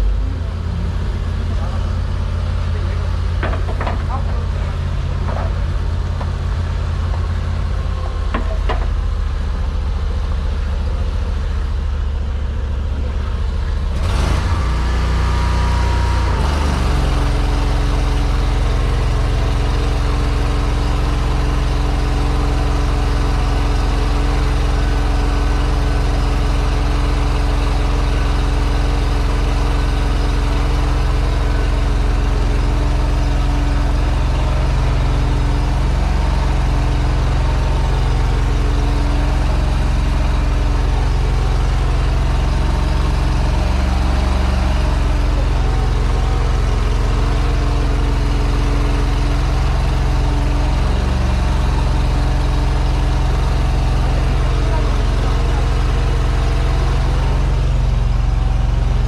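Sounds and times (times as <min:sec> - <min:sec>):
drain jetter engine running: 0:00.0 - 0:59.0.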